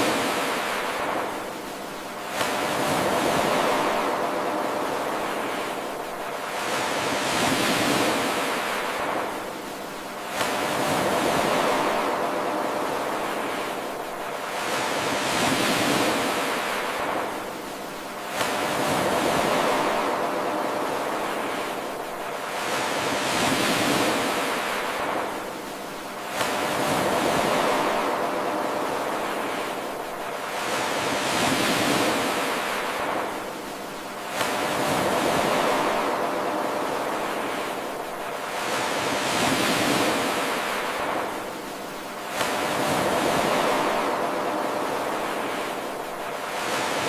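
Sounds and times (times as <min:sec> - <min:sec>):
ocean waves washing: 0:00.0 - 0:47.0.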